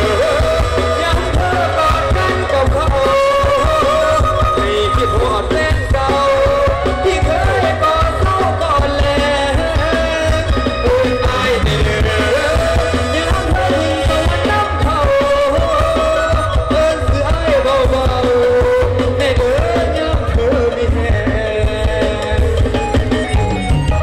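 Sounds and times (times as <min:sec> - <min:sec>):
live band music over speakers: 0:00.0 - 0:24.0.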